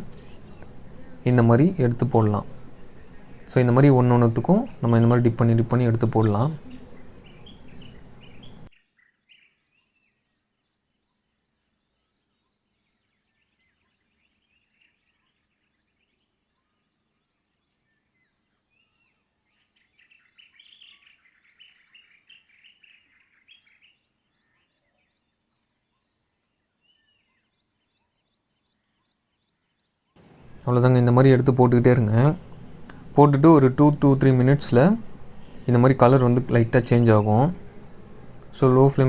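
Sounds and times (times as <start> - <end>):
faint bird chirps: 0.0 - 39.0.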